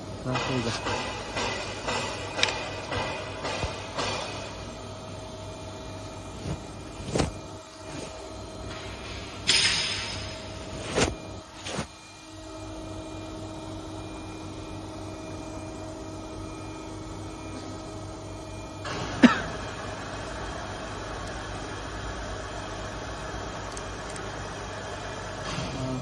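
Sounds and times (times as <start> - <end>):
workshop machinery hum: 0.0 - 26.0.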